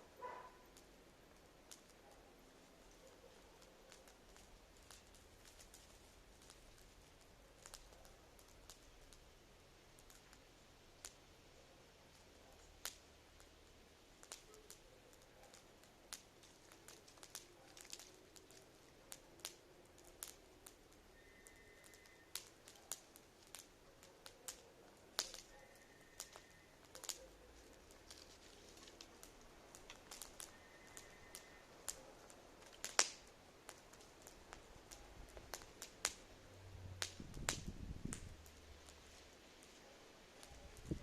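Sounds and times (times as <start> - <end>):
campfire crackling: 0.0 - 41.0
fire pops and snaps: 0.1 - 41.0.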